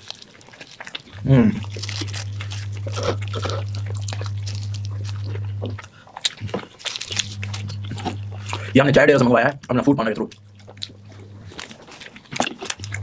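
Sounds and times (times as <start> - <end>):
close-up chewing: 0.0 - 13.0
steady low hum: 1.1 - 13.0.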